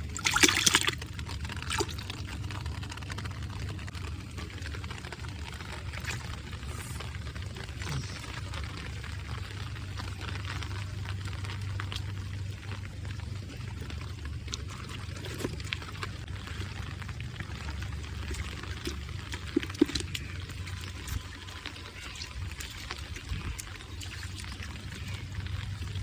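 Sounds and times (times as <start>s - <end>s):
constant low hum: 0.0s - 26.0s
water pouring and splashing: 0.0s - 26.0s.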